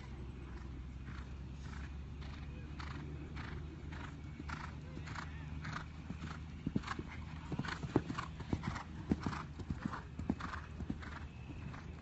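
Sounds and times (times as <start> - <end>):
horse hoofbeats: 0.5 - 12.0.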